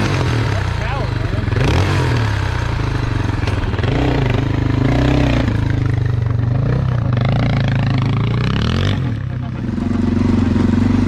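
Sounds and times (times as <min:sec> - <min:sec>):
motorcycle engine pulling away: 0:00.0 - 0:11.0.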